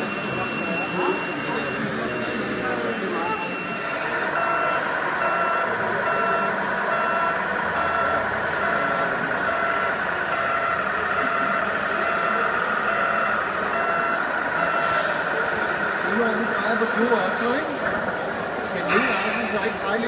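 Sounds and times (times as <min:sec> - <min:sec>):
reversing beeper electronic beeps: 0:00.0 - 0:15.3, 0:18.8 - 0:20.0.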